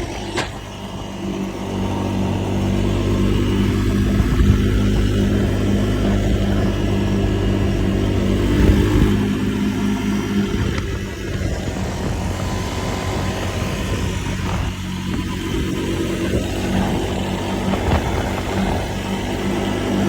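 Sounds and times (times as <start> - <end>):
exhaust pops: 0.0 - 1.1, 3.6 - 20.0
motorcycle engine running: 0.0 - 20.0.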